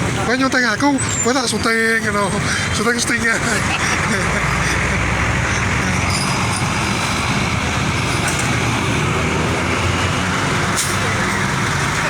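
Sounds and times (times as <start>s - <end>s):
large vehicle engine running: 0.0s - 12.0s
road traffic noise: 0.0s - 12.0s.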